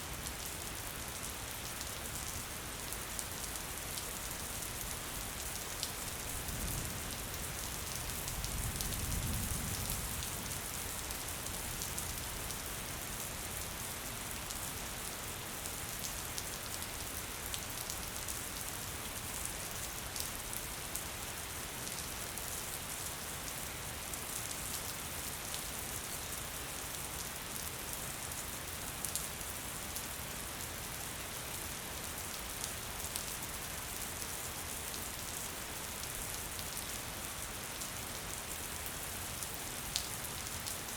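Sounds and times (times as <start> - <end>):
steady gentle rain: 0.0 - 40.9.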